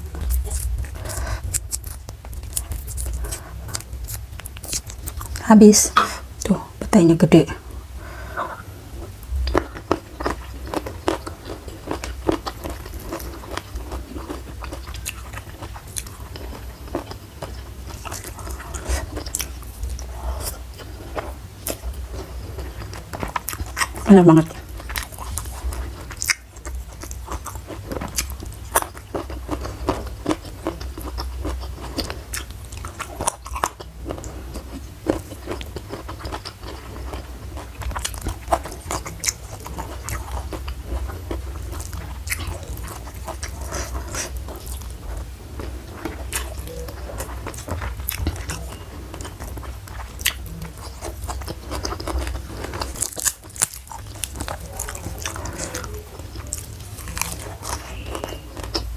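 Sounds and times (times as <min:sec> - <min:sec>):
chewing and crunching food: 0:00.0 - 0:06.6, 0:07.5 - 0:58.9
steady low hum: 0:00.0 - 0:58.9.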